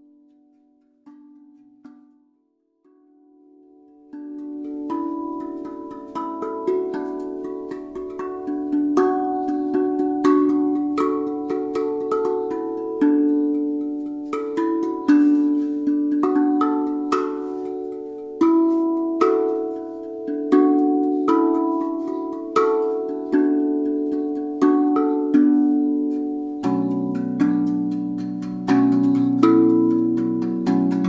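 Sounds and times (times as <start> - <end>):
steel tongue drum melody: 0.0 - 31.0.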